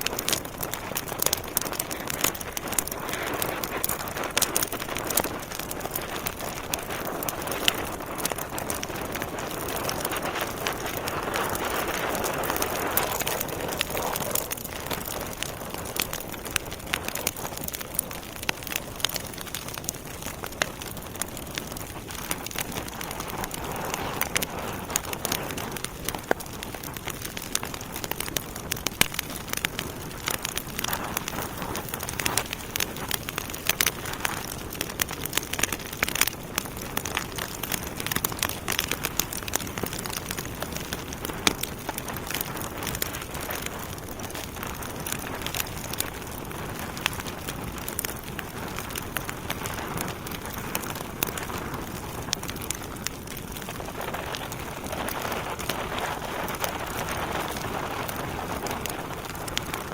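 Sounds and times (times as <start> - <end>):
wood logs crackling in fireplace: 0.0 - 59.9.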